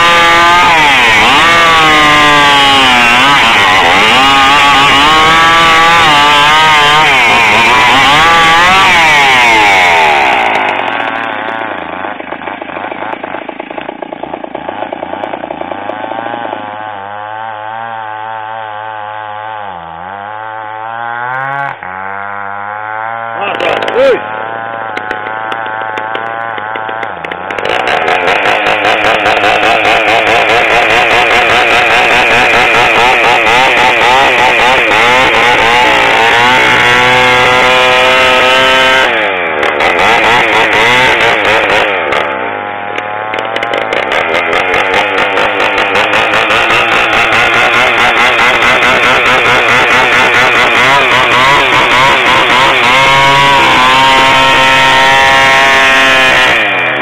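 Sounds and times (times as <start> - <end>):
chainsaw running under load: 0.0 - 57.0.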